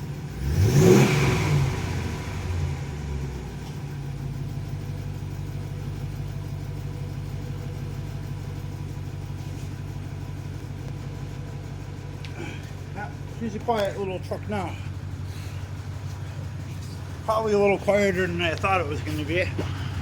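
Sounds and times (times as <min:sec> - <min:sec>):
engine revving and idling: 0:00.0 - 0:20.0.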